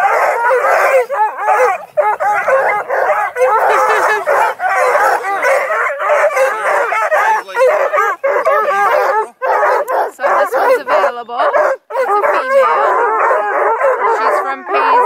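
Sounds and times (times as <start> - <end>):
dogs yelping and baying: 0.0 - 15.0.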